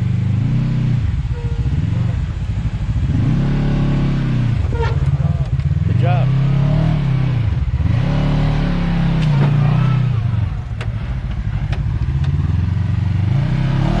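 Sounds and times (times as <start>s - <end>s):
utility vehicle engine revving: 0.0s - 14.0s.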